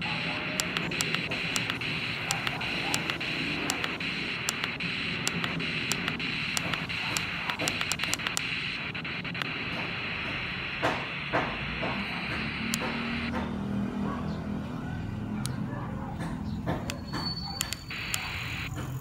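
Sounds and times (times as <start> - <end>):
radio static hiss: 0.0 - 13.4, 16.8 - 19.0
sharp clicks: 0.0 - 13.5, 15.4 - 19.0.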